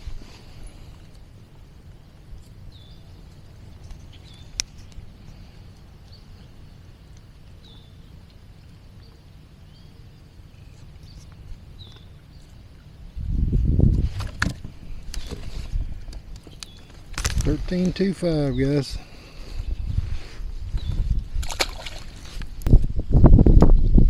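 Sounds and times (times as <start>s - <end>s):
low rumble of wind: 0.0s - 24.0s.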